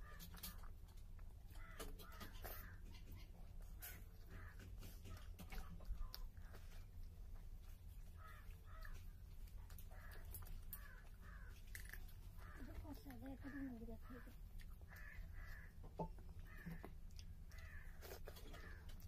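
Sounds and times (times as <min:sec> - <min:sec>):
eating clicks: 0:00.0 - 0:19.0.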